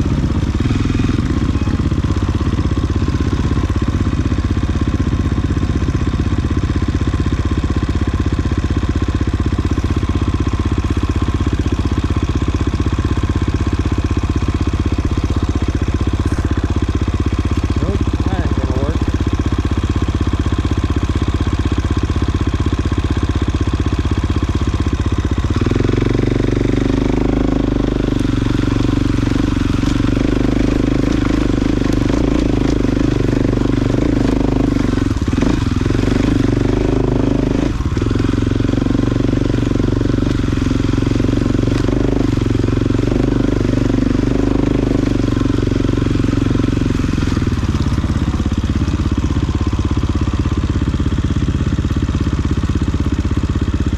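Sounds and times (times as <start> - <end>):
off-road vehicle engine running: 0.0 - 53.9.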